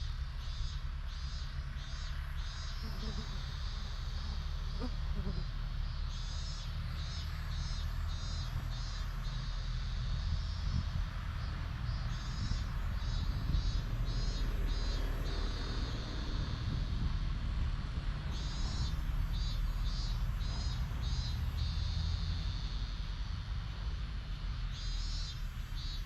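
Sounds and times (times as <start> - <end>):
insect singing in high pulses: 0.3 - 17.3, 18.2 - 26.0.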